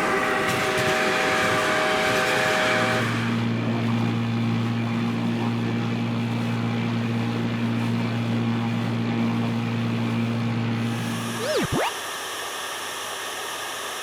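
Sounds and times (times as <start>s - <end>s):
steady low engine drone: 0.0s - 11.7s.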